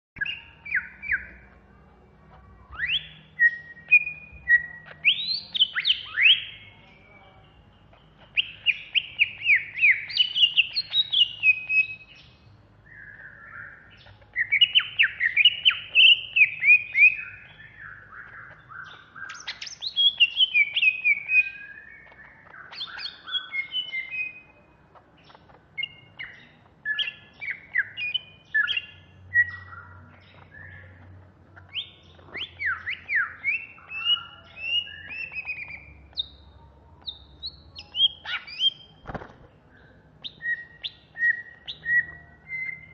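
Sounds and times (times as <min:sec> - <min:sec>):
bird singing chattering phrases: 0:00.2 - 0:42.9.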